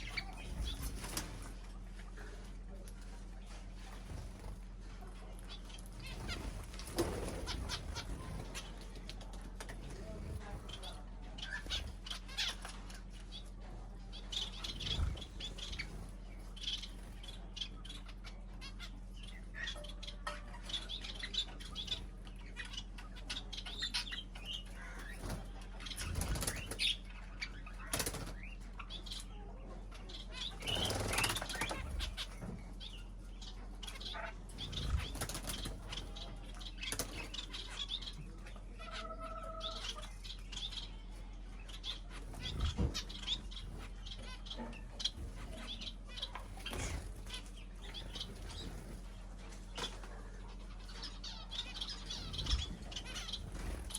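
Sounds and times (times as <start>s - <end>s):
birds fluttering wings: 0.0s - 29.3s, 30.3s - 38.7s, 39.6s - 53.9s
steady low hum: 0.0s - 53.9s
bird chirps and calls: 5.4s - 9.1s, 9.8s - 53.9s.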